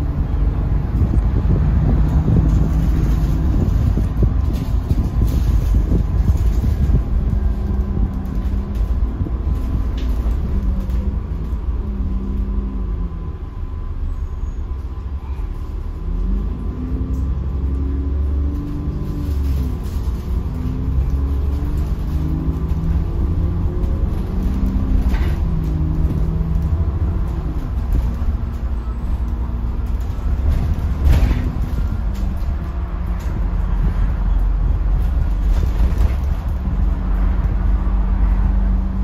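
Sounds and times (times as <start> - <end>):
bus diesel engine: 0.0 - 39.0
road rumble: 0.0 - 39.0.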